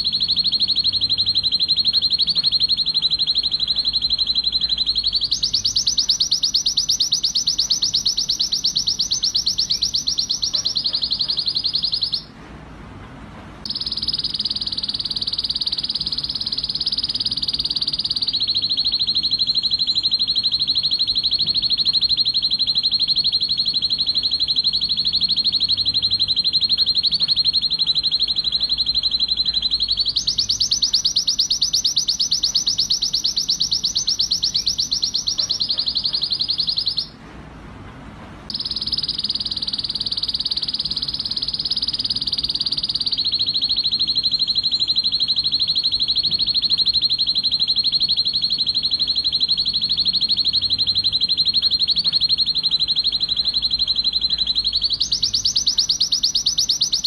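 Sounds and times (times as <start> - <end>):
canary trilling: 0.0 - 12.4, 13.7 - 37.2, 38.5 - 57.0.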